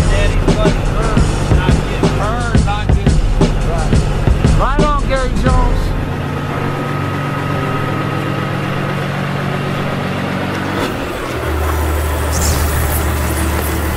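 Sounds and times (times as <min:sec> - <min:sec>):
diesel truck engine idling: 0:00.0 - 0:13.9.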